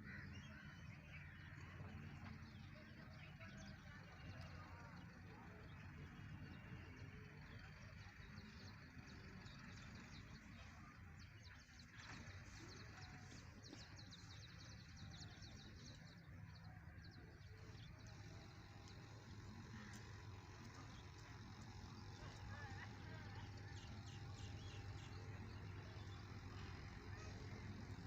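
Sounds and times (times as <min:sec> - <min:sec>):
birds chirping: 0:00.0 - 0:28.0
low steady background hum: 0:00.0 - 0:28.0.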